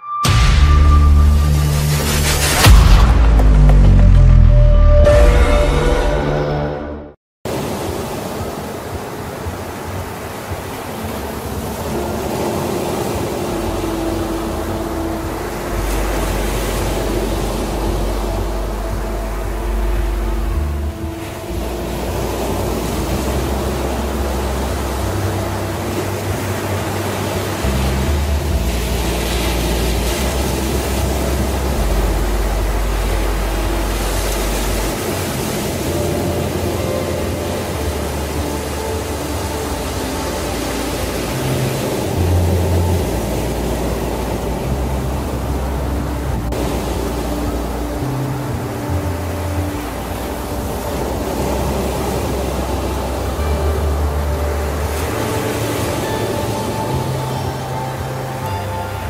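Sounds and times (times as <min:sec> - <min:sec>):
low droning tones: 0:00.0 - 0:07.2, 0:11.5 - 0:59.0
steady rushing noise: 0:00.2 - 0:59.0.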